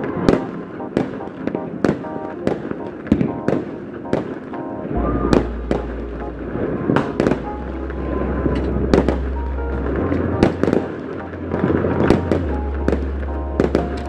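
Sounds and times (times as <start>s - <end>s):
firecrackers crackling: 0.0s - 14.0s
firework bangs and pops: 0.0s - 14.0s
music playing: 0.0s - 14.0s.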